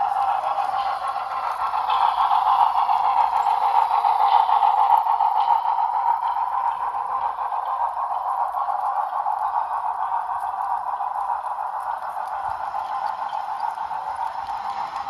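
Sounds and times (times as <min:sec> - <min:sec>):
model train wheels rolling: 0:00.0 - 0:15.0.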